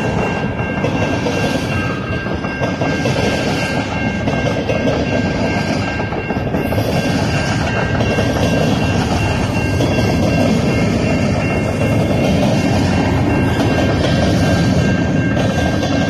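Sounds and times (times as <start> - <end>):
freight train rumbling past: 0.0 - 16.0
steady high tones: 0.0 - 16.0.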